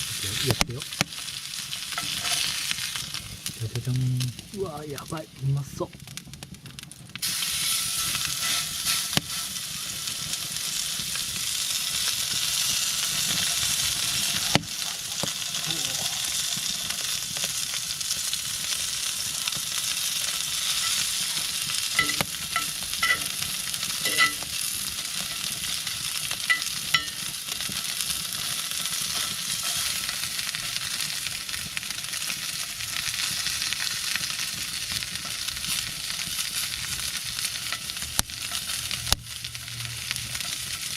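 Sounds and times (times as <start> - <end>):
steak sizzling: 0.0 - 40.9.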